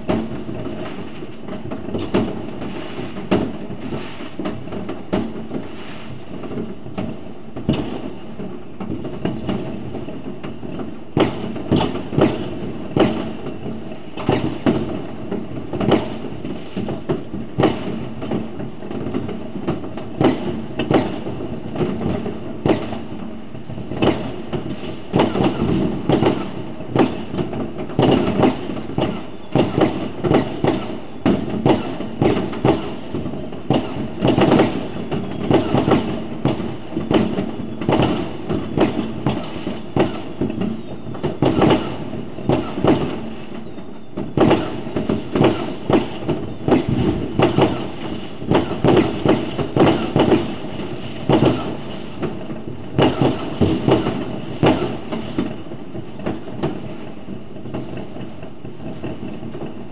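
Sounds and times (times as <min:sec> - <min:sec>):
distant fireworks rumbling: 0:00.0 - 0:59.9
loud firework bangs: 0:00.0 - 0:59.9.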